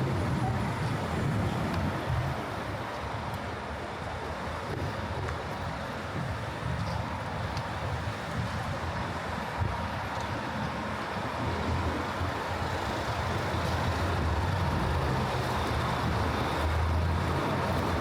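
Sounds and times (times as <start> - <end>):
street traffic hum: 0.0 - 18.0.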